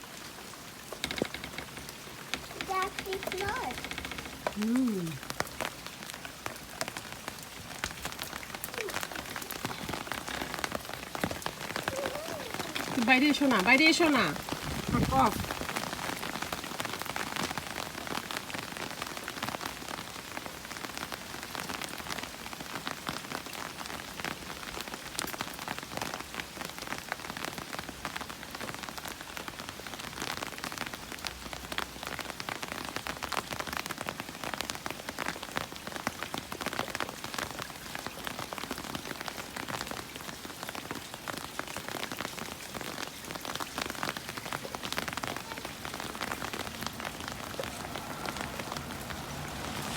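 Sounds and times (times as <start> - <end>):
heavy rain pattering: 0.0 - 49.9.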